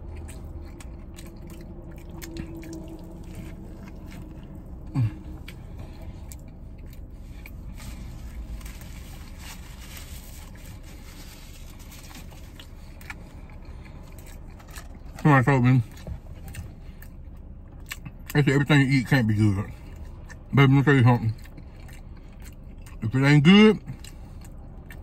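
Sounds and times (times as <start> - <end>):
man chewing food: 0.0 - 18.4, 19.5 - 25.0.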